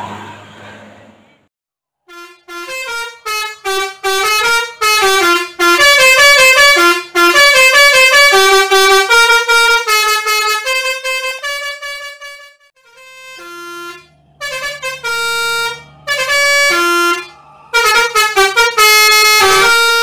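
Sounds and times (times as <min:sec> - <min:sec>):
multi-tone bus horn tune: 0:02.0 - 0:20.0.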